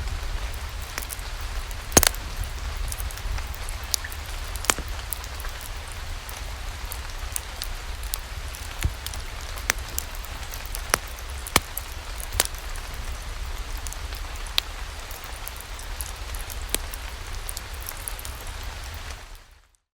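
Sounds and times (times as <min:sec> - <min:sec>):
steady rain: 0:00.0 - 0:19.9
wood fire crackling and popping: 0:00.5 - 0:19.4.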